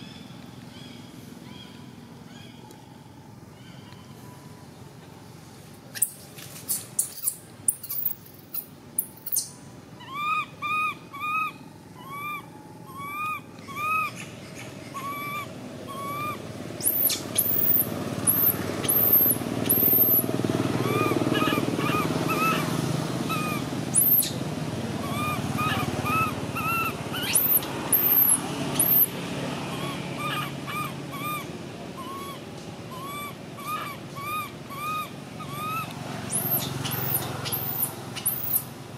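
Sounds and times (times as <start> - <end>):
baby monkey screaming: 6.0 - 24.4, 25.0 - 38.7.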